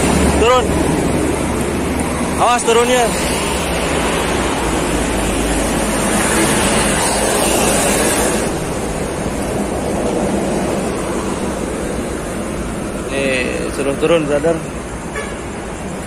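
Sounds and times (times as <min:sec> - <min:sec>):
highway traffic rushing: 0:00.0 - 0:16.0.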